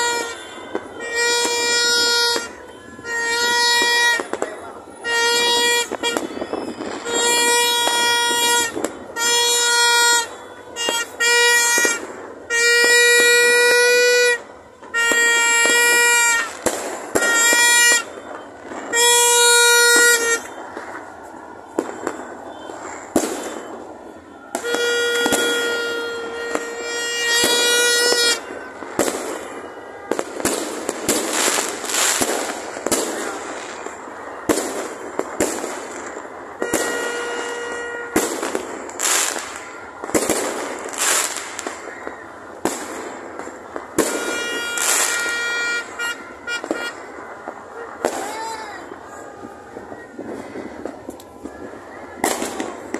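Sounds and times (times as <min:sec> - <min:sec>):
fireworks popping and crackling: 0:00.0 - 0:52.9
horn long blasts: 0:00.0 - 0:52.9.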